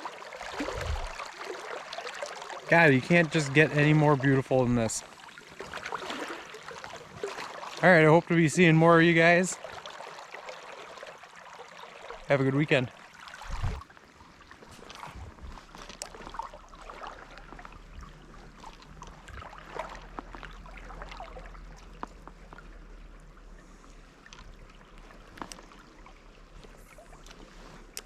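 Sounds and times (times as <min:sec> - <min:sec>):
small splashes and clicks: 0:00.0 - 0:07.9, 0:09.6 - 0:28.0
stream water running: 0:00.0 - 0:28.0.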